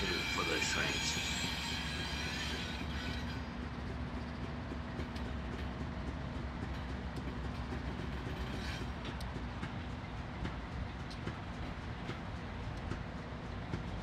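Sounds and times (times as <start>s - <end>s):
locomotive engine rumble: 0.0s - 14.0s
wheels clicking on rails: 0.0s - 14.0s.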